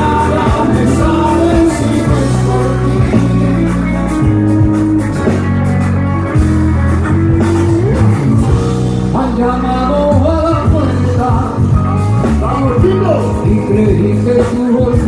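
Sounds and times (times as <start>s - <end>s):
amplified guitar melody: 0.0s - 15.0s
live pop band playing: 0.0s - 15.0s.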